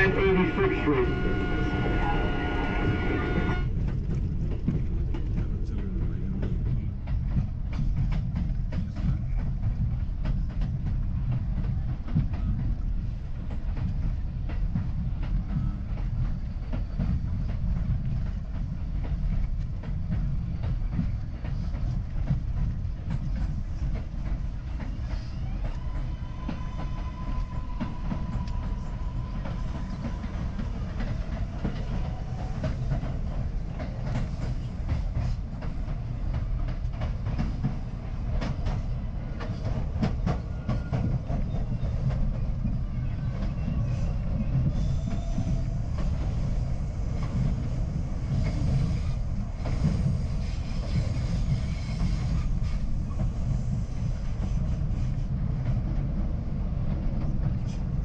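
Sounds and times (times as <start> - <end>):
rail joint clicks: 0.0 - 58.0
subway train wheels rumbling on rail: 0.0 - 58.0.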